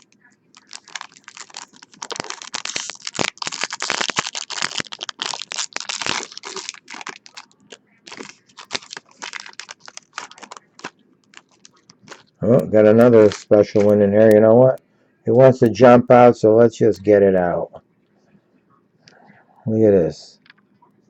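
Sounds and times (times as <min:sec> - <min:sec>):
trading cards crinkling: 0:00.0 - 0:17.5.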